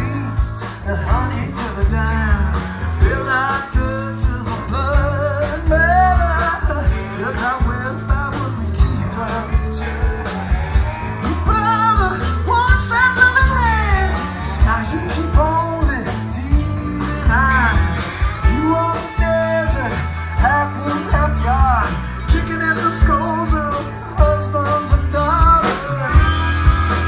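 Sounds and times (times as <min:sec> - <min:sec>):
drum kit with cymbals: 0:00.0 - 0:27.0
electric bass: 0:00.0 - 0:27.0
electric guitars: 0:00.0 - 0:27.0
man singing: 0:00.0 - 0:27.0.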